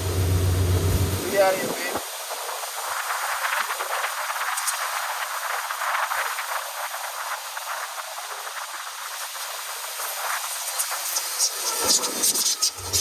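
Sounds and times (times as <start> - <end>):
steady hissing with faint rattle: 0.8 - 13.0.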